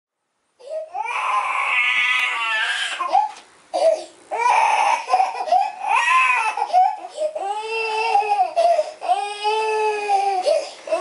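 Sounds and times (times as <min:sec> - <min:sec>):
infant crying: 0:00.6 - 0:11.0.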